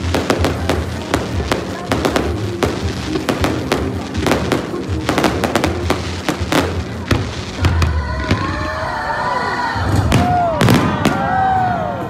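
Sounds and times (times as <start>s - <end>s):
fireworks bursting and banging: 0.0s - 8.9s, 9.8s - 12.0s.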